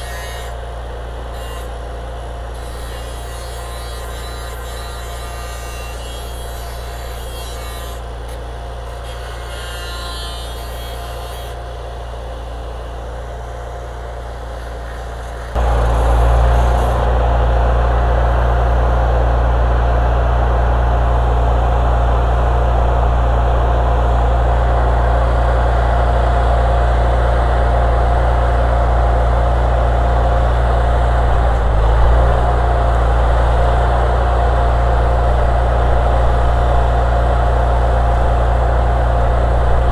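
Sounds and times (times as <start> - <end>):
steady whine: 0.0 - 39.9
welding unit engine running: 0.0 - 39.9.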